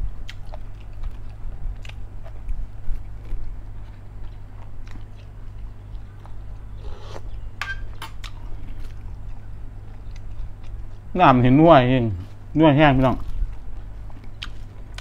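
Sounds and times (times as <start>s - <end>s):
man chewing food: 0.0s - 11.1s, 12.2s - 15.0s
steady low hum: 0.0s - 15.0s.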